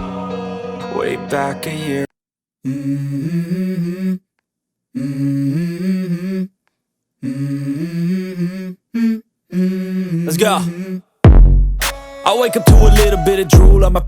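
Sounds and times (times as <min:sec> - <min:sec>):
hummed vocal melody: 0:00.0 - 0:04.3, 0:04.9 - 0:06.6, 0:07.2 - 0:11.1, 0:12.3 - 0:14.0.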